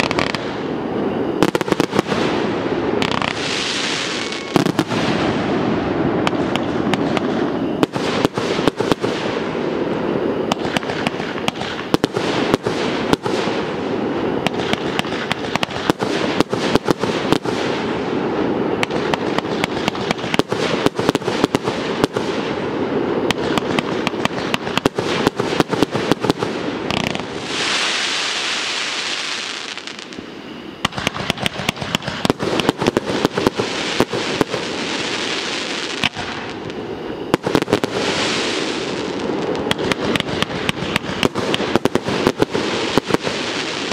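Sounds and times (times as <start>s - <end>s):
fireworks hiss: 0.0s - 43.9s
fireworks popping and crackling: 0.0s - 43.9s.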